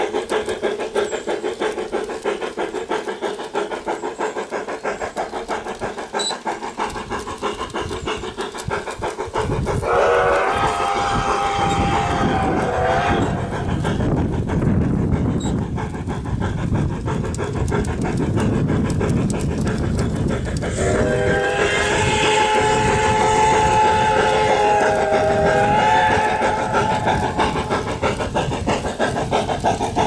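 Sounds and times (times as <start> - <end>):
locomotive running rumble: 0.0 - 30.0
model steam locomotive chuffing: 0.0 - 30.0.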